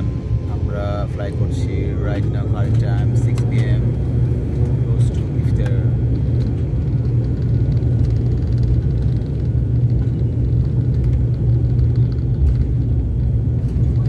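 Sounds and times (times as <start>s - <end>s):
airliner engine drone: 0.0s - 14.0s
runway rumble: 0.0s - 14.0s.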